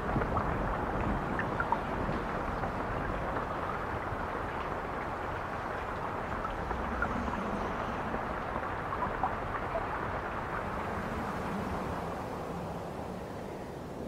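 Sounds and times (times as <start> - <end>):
steady rumbling noise: 0.0 - 14.0.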